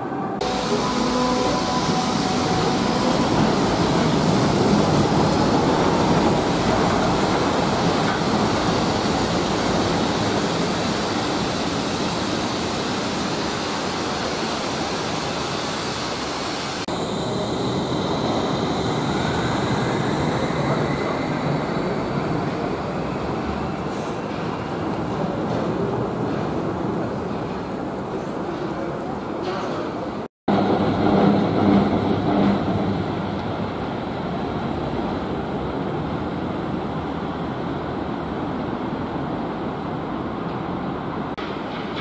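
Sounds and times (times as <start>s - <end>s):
train wheels rumbling on rail: 0.4s - 42.0s.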